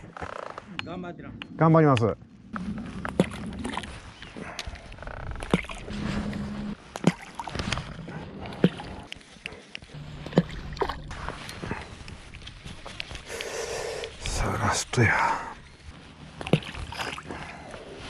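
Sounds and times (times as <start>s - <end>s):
water lapping against raft: 2.6s - 18.0s.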